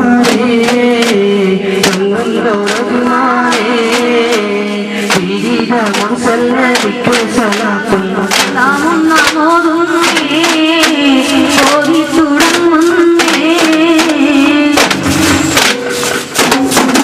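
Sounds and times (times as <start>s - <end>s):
person singing: 0.0s - 16.2s
sharp percussive hits: 0.0s - 17.0s.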